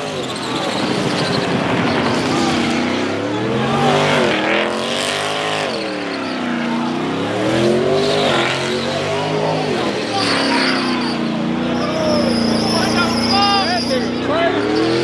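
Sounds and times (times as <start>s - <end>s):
car engine revving hard: 0.0s - 15.0s
tires spinning and squealing: 0.0s - 15.0s.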